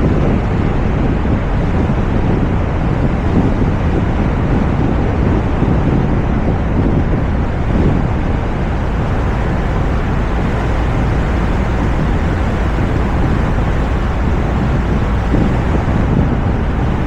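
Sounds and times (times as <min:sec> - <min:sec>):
road and tyre noise: 0:00.0 - 0:17.0
wind rush on microphone: 0:00.0 - 0:17.0.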